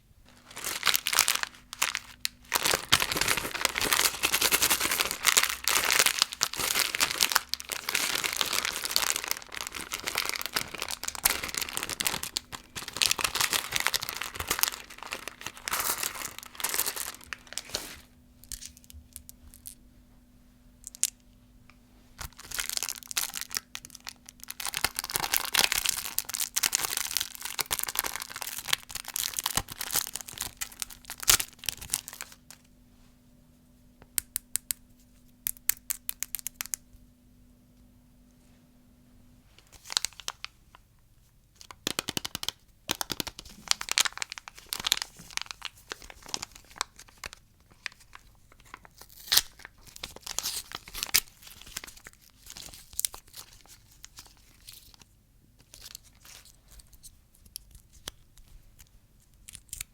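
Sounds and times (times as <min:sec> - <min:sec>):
plastic candy wrappers crinkling: 0:00.2 - 0:19.8, 0:22.2 - 0:32.7, 0:34.2 - 0:36.9, 0:39.6 - 0:40.8, 0:41.6 - 0:59.9.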